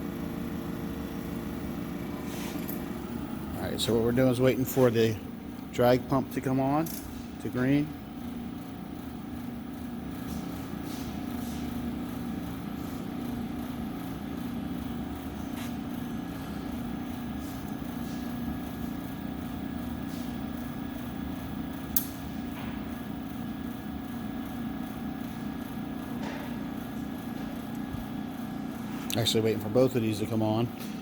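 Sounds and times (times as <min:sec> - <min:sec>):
faint steady whine: 0:00.0 - 0:30.7
vacuum pumps humming: 0:00.0 - 0:31.0.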